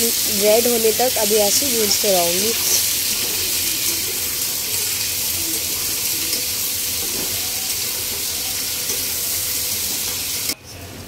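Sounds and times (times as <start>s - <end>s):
onions sizzling in hot oil: 0.0s - 10.6s.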